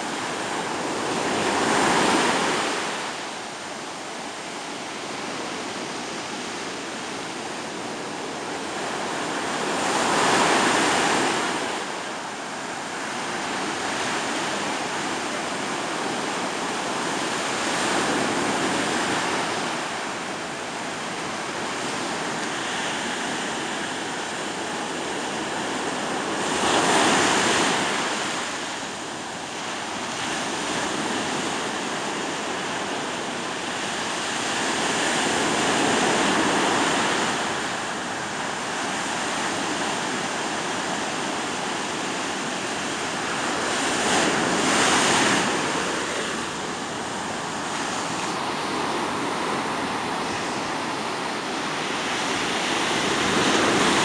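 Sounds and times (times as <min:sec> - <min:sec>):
big waves crashing: 0:00.0 - 0:54.0
stormy sea surf: 0:00.0 - 0:54.0.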